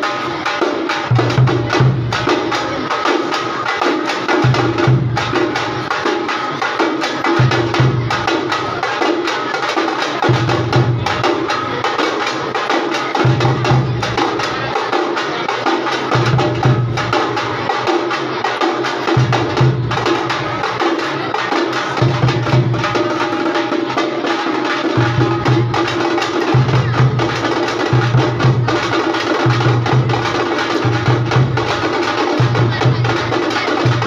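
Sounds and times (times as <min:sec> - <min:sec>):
folk drumming: 0:00.0 - 0:34.0.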